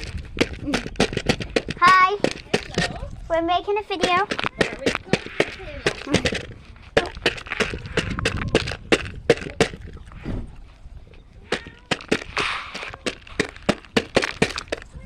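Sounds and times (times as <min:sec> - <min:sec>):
sharp taps: 0:00.0 - 0:03.0, 0:03.9 - 0:10.0, 0:11.5 - 0:15.0.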